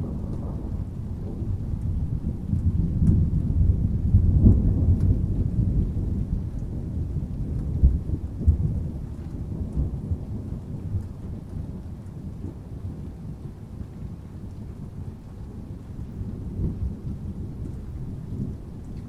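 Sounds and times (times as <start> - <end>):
rain falling: 0.0 - 19.0
rolling thunder: 0.0 - 19.0.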